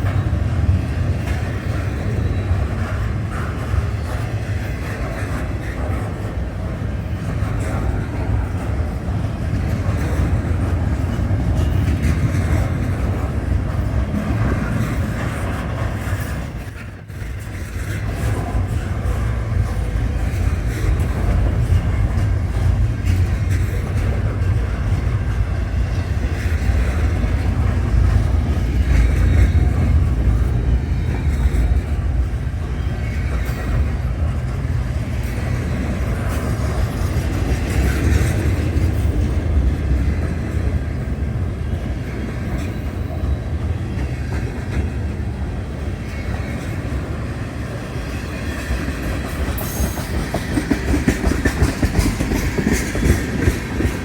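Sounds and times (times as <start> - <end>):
freight train rumbling: 0.0 - 54.0
train wheels clacking on rails: 0.0 - 54.0.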